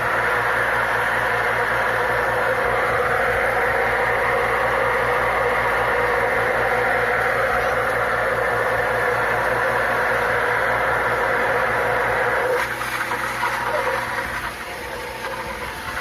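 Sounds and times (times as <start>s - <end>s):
water pump humming: 0.0s - 16.0s.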